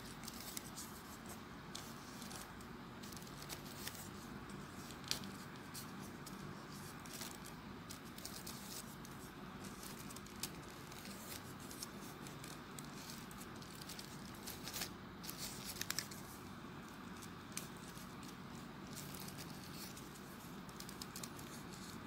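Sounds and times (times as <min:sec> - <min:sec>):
paper rustling and ticking: 0:00.0 - 0:22.0
sharp paper clicks: 0:00.0 - 0:22.0.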